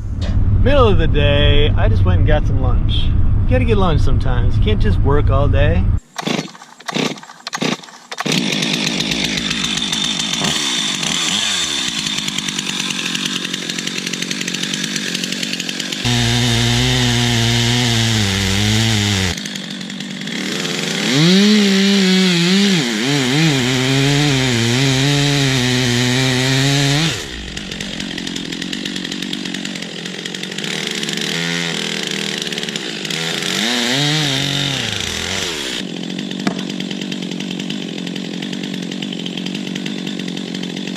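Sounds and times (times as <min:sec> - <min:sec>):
chainsaw cutting wood: 0:06.0 - 0:40.9.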